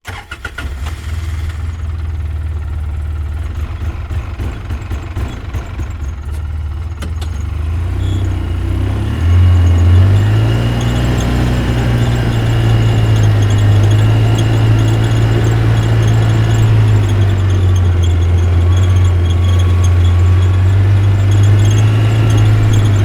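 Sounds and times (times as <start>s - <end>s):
atv engine running: 0.1s - 23.0s.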